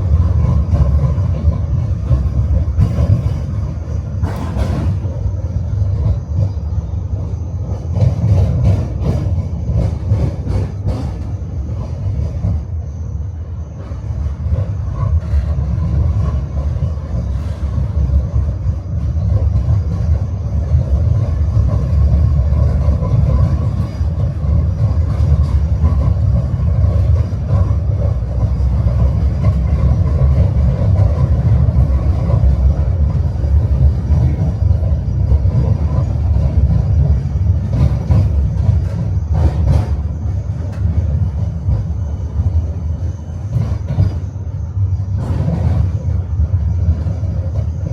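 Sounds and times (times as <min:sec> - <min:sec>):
tram wheels rumbling on rails: 0:00.0 - 0:47.9.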